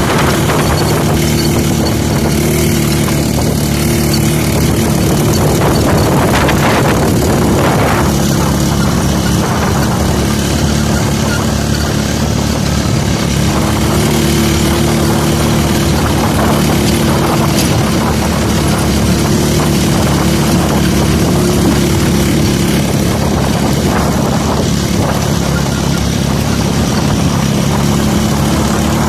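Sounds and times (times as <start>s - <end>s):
motorcycle engine hum: 0.0s - 29.0s.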